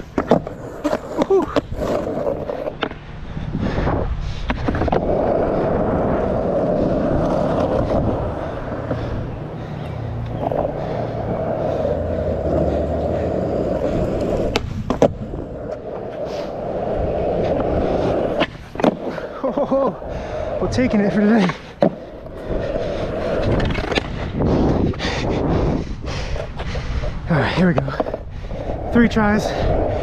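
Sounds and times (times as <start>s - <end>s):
skateboard wheels rolling on asphalt: 0.0s - 30.0s.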